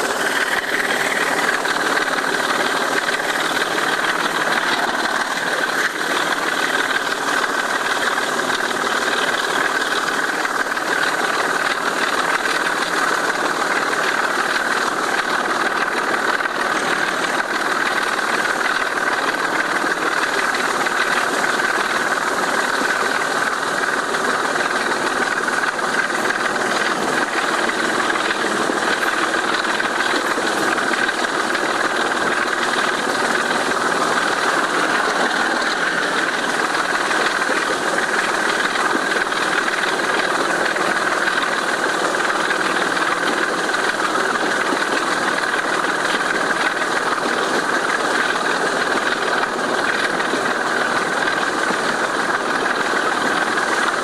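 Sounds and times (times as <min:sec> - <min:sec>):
diesel locomotive engine thrashing: 0:00.0 - 0:54.0.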